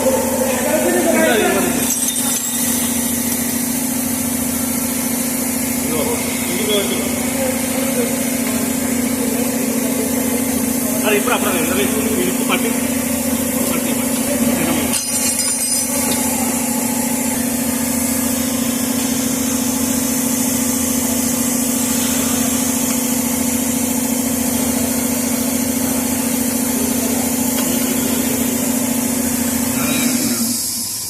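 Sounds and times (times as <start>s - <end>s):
motor hum: 0.0s - 31.0s.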